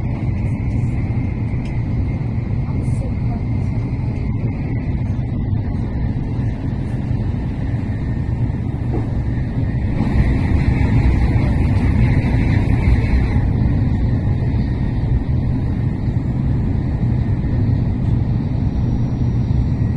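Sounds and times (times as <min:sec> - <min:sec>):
train rumble inside passenger car: 0:00.0 - 0:19.9.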